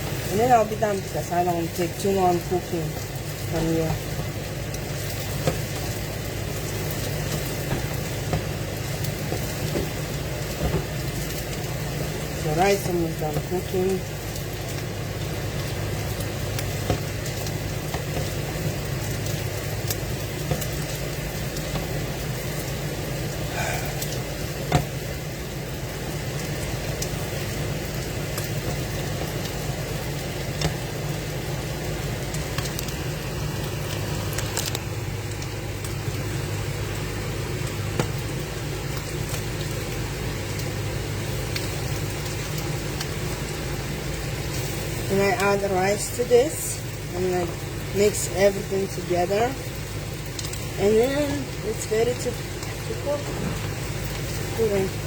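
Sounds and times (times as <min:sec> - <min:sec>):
food sizzling: 0:00.0 - 0:55.0.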